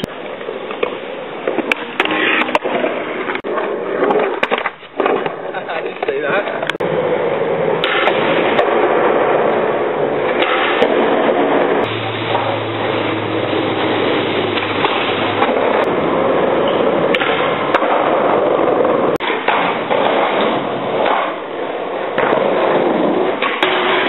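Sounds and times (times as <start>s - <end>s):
skateboard clacks: 0.0s - 13.0s, 13.7s - 24.0s
skateboard wheels rolling on pavement: 0.0s - 24.0s.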